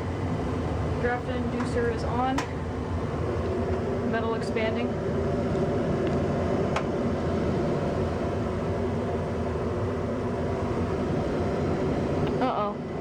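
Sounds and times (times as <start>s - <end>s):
gas furnace humming: 0.0s - 13.0s.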